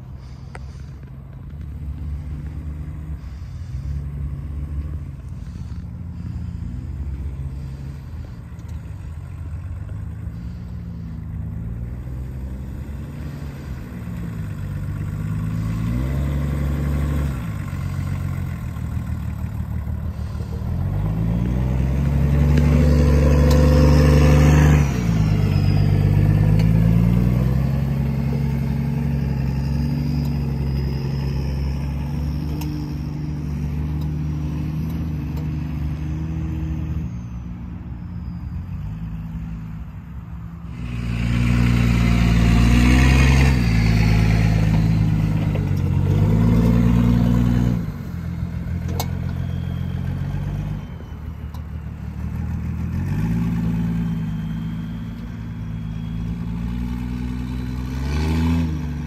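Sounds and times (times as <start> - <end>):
diesel truck engine revving: 0.0 - 59.0.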